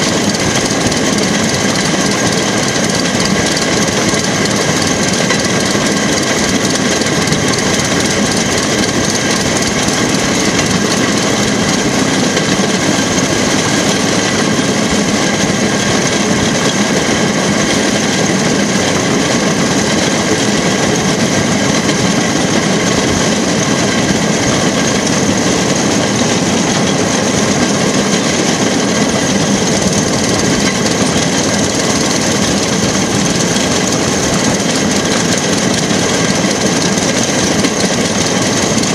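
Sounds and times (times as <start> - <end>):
rail car engine: 0.0 - 38.9
wheels rolling on rails: 0.0 - 38.9.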